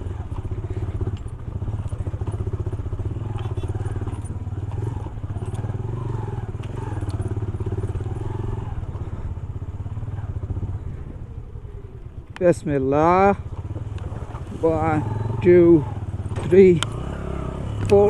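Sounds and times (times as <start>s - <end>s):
motorcycle engine low revs: 0.0s - 18.0s.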